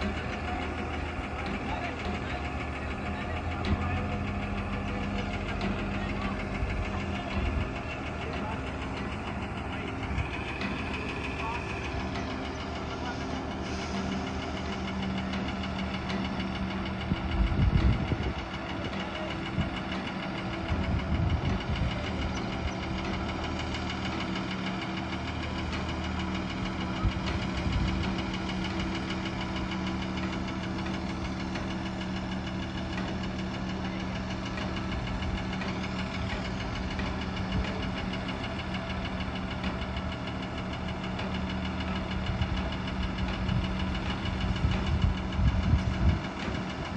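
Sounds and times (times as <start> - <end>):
diesel engine humming: 0.0 - 46.9
low rumbles: 0.0 - 46.9.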